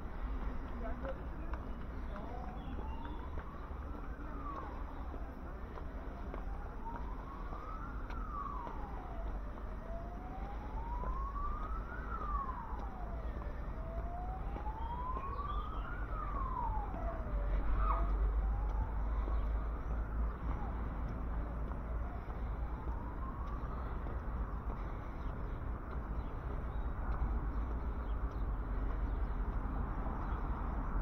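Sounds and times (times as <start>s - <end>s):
emergency siren wailing: 0.0s - 31.0s.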